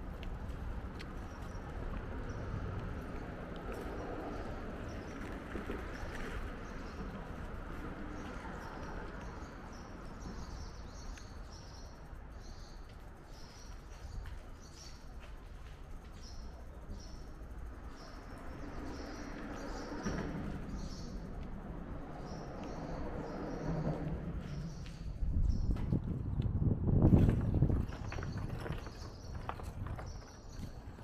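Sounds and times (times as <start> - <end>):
bicycle ride rumble: 0.0 - 31.0.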